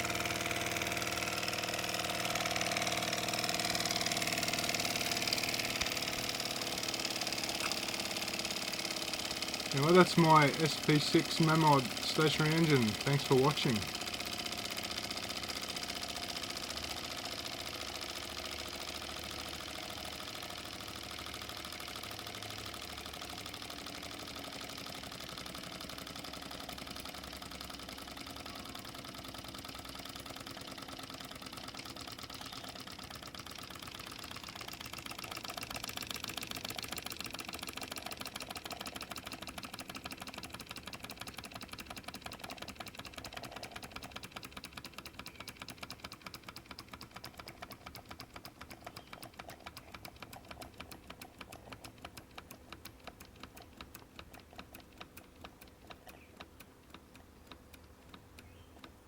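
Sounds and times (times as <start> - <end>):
miniature steam engine running: 0.0 - 59.0.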